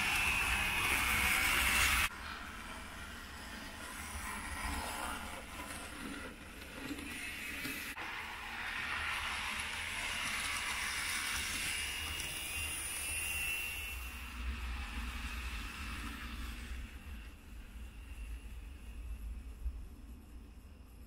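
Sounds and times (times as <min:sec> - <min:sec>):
model train motor whirring: 0:00.0 - 0:17.3.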